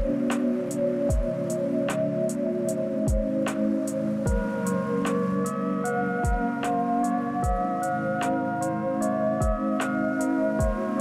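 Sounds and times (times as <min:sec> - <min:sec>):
light ticking beat: 0:00.0 - 0:11.0
synth chords: 0:00.0 - 0:11.0.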